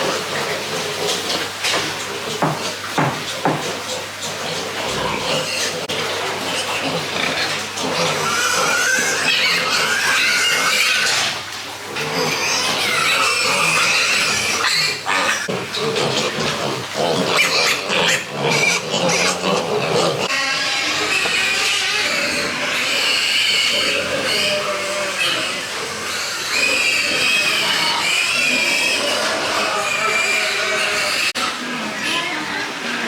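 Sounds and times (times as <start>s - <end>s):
pigs squealing: 0.0s - 33.0s.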